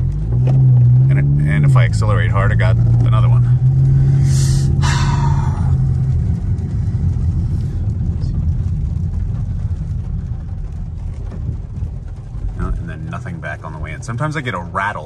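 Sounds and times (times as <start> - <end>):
car engine and tyre rumble: 0.0 - 15.0
steady engine hum: 0.0 - 15.0.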